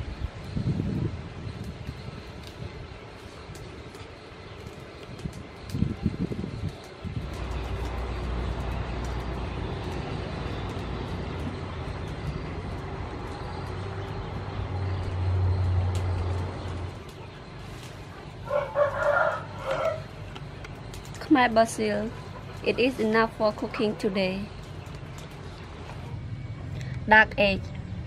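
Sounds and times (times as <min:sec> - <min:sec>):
vehicle engine droning: 0:05.4 - 0:28.0.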